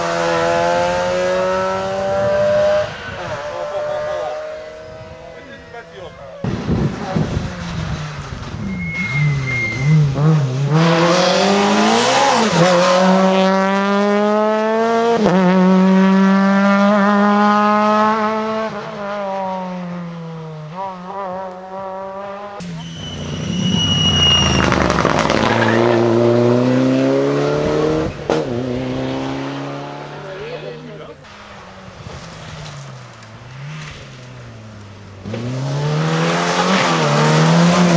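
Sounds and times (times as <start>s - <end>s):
rally car engines revving: 0.0s - 37.9s.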